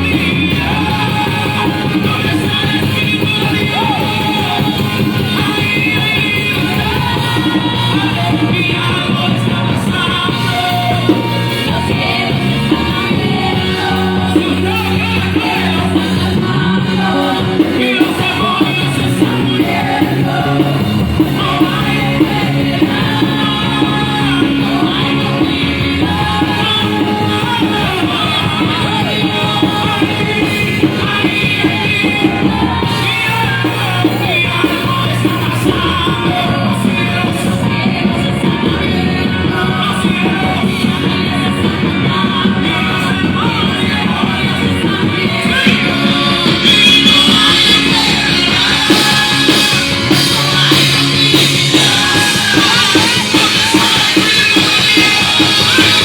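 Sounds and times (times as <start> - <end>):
amplified singing: 0.0 - 56.0
drum-kit beats: 0.0 - 56.0
live band playing: 0.0 - 56.0.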